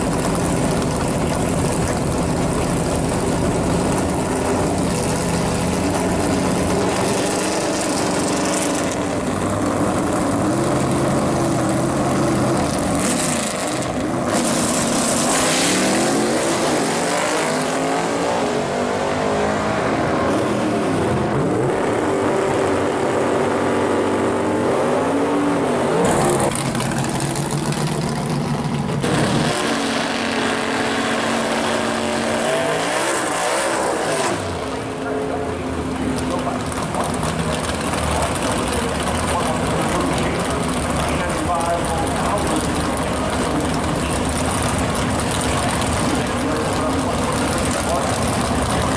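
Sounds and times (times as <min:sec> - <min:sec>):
drag race engines revving: 0:00.0 - 0:48.9.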